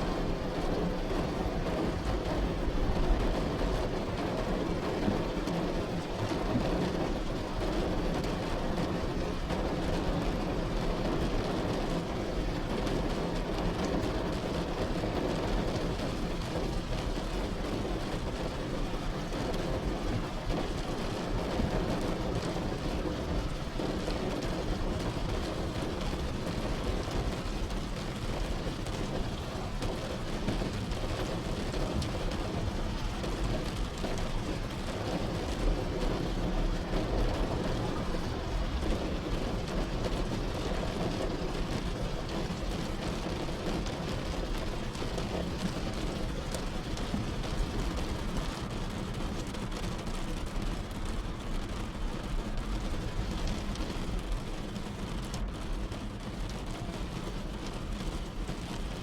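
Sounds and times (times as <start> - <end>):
rain falling on a car: 0.0 - 59.0.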